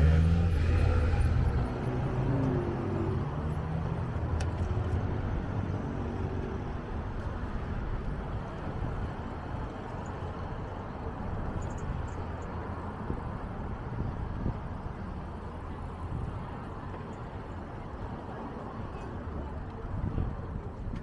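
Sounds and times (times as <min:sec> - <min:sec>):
road rumble: 0:00.0 - 0:21.0
vehicle engine hum: 0:00.0 - 0:21.0.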